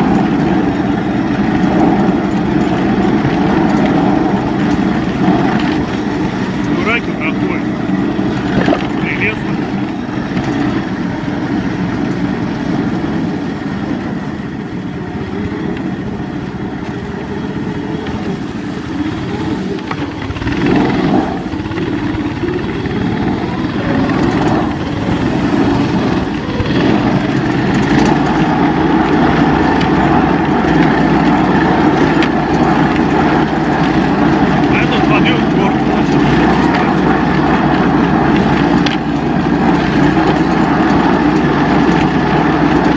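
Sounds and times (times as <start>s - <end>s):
snowmobile engine running: 0.0s - 42.9s.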